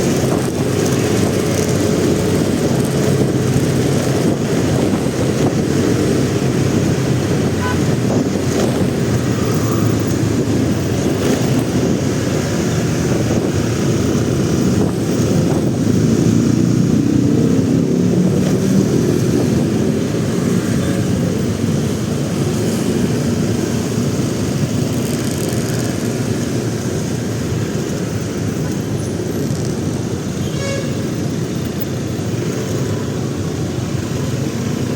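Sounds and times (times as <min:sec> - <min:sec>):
wind rumble on microphone: 0:00.0 - 0:30.3
motorcycle engine: 0:00.0 - 0:31.1.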